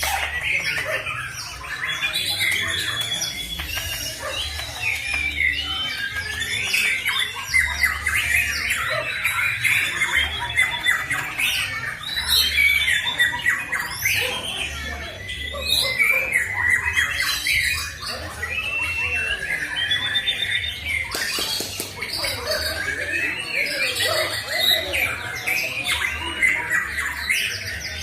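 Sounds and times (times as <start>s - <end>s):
birds singing chattering and whistling: 0.0s - 28.0s.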